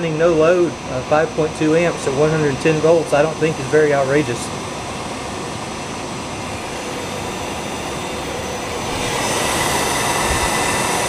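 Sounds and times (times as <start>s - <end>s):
electric motor humming and whining: 0.0s - 11.0s.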